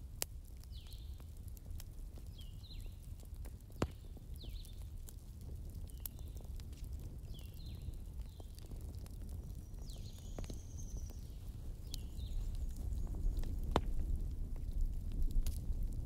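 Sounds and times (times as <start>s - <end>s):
fire rumbling with crackles: 0.0s - 16.0s.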